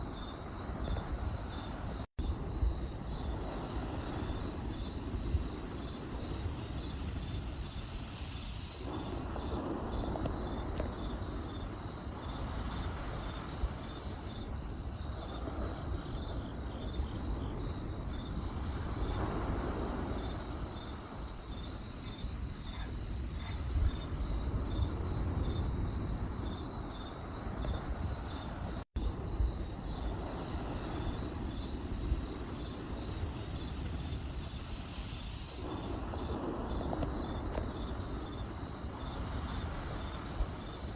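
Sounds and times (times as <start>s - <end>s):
campfire rumbling: 0.0s - 40.9s
crickets chirping: 0.0s - 40.9s
fire crackles: 0.0s - 40.9s.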